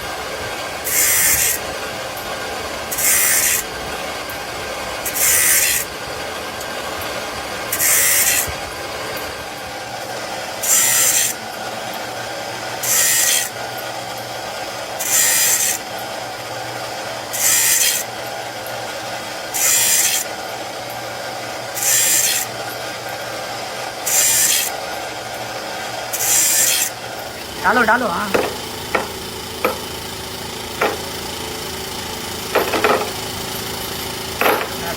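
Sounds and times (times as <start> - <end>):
factory machinery humming: 0.0 - 34.9.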